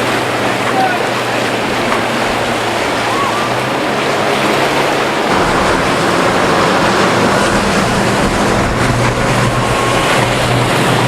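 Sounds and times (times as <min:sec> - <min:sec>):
breaking waves and wake wash: 0:00.0 - 0:11.0
outboard boat engine: 0:00.0 - 0:11.0.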